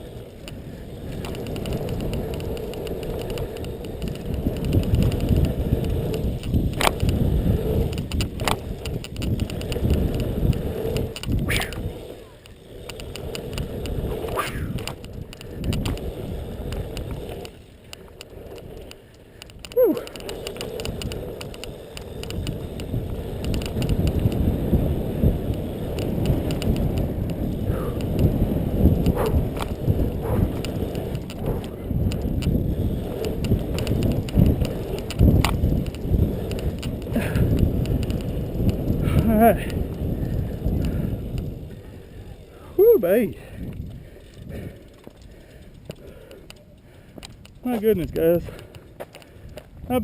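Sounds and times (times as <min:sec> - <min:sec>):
bike rattling and knocking: 0:00.0 - 0:50.0
wind rushing over microphone: 0:00.0 - 0:50.0.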